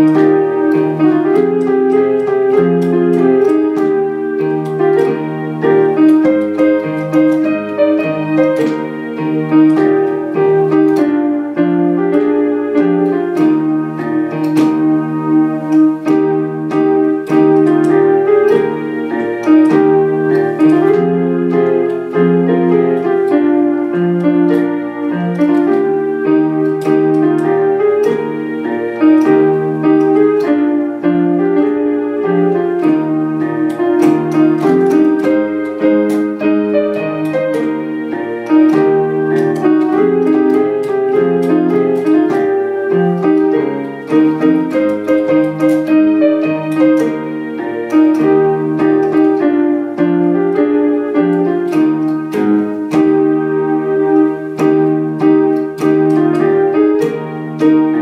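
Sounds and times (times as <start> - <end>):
piano playing hymn chords: 0.0 - 58.0.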